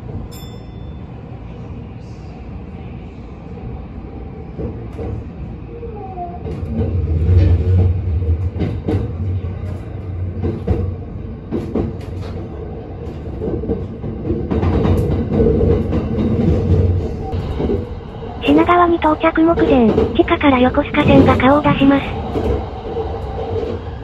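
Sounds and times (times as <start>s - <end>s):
train running gear rumble: 1.5s - 24.0s.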